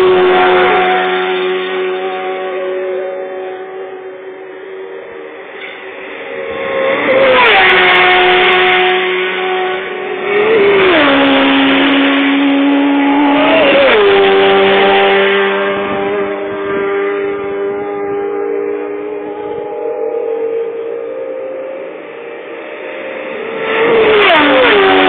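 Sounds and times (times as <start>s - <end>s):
racing motorcycles passing: 0.0s - 25.0s.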